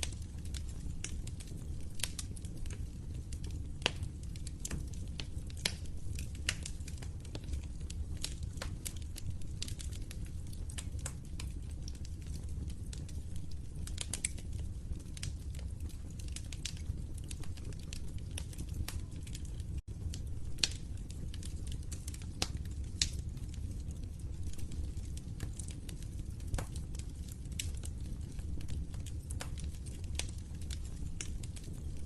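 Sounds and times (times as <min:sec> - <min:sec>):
low rumble of burning: 0:00.0 - 0:32.0
sharp fire pops: 0:00.0 - 0:32.0
wood fire crackling: 0:00.0 - 0:32.0.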